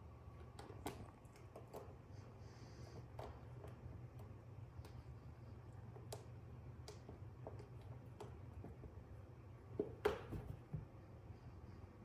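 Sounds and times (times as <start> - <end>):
steady low hum: 0.0 - 12.0
faint clicks and taps: 0.3 - 11.0.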